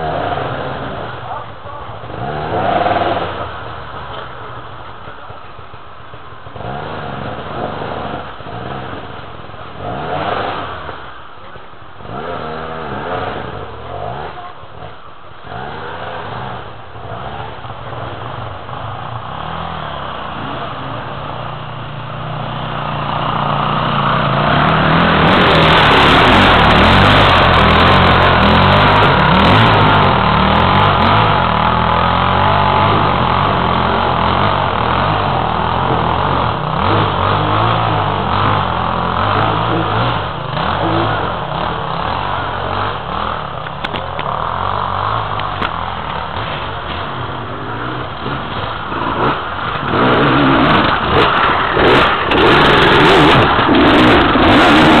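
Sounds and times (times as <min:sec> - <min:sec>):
dirt bike engine revving: 0:00.0 - 0:04.3, 0:06.4 - 0:55.0.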